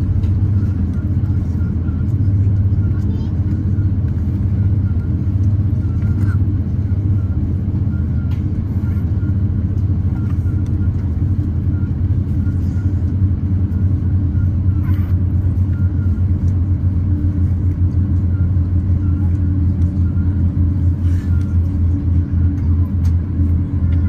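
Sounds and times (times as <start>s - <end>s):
aircraft engines rumbling: 0.0s - 24.0s.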